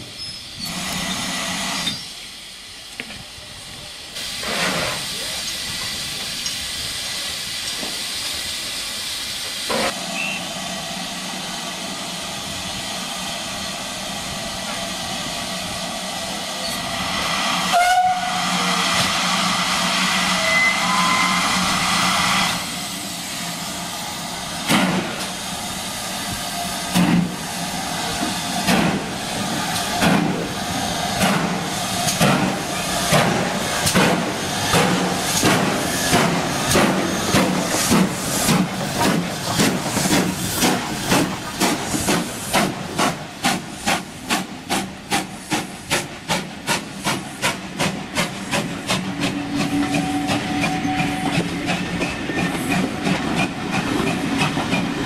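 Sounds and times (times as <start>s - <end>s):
rush of steam: 0.0s - 55.0s
steam locomotive exhaust beats: 0.0s - 55.0s.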